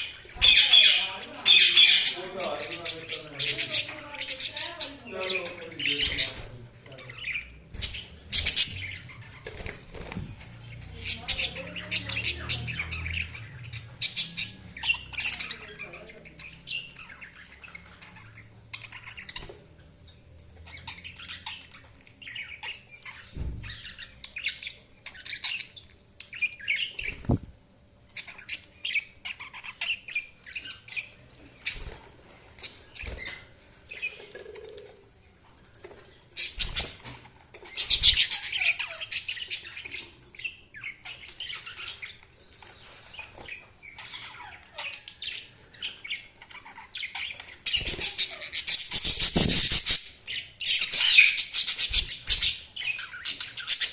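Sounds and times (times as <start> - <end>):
budgies chirping and squawking: 0.0 - 53.9.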